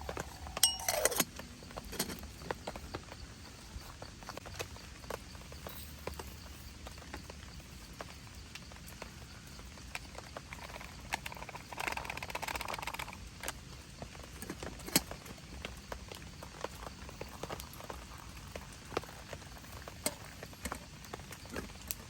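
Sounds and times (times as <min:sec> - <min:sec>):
raindrops tapping on a tent: 0:01.2 - 0:22.0.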